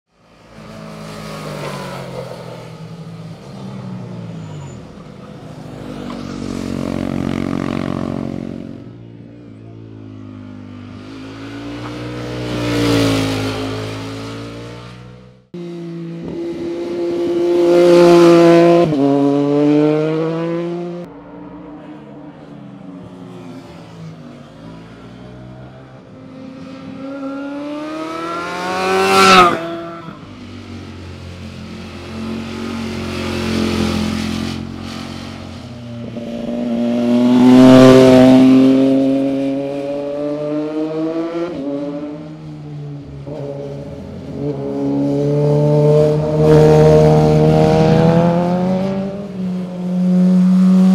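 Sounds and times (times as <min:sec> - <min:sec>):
motorcycles passing by: 0:00.2 - 0:50.9.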